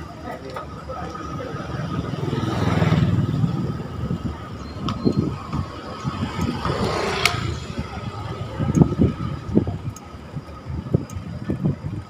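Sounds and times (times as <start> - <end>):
bike tyres on concrete: 0.0 - 12.0
wind rumble on microphone: 0.0 - 12.0.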